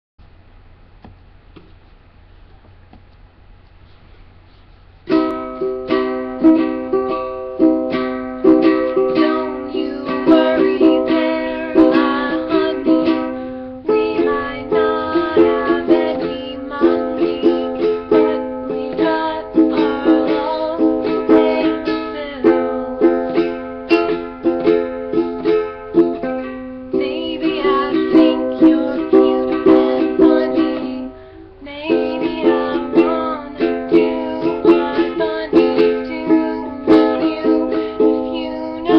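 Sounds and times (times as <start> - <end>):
ukulele strumming chords: 5.1 - 38.9.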